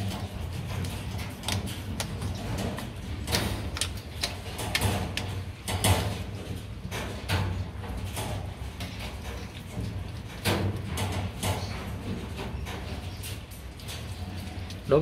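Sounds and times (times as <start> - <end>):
animal crunching fish: 0.0 - 15.0.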